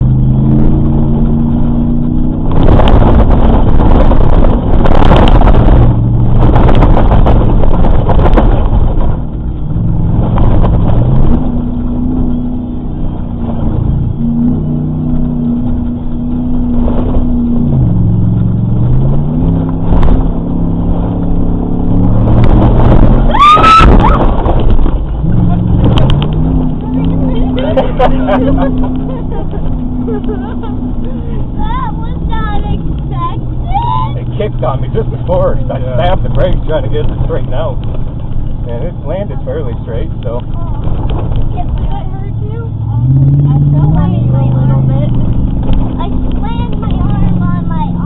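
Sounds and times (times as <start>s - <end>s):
off-road vehicle engine revving: 0.0s - 48.0s
vehicle banging and rattling: 0.0s - 48.0s.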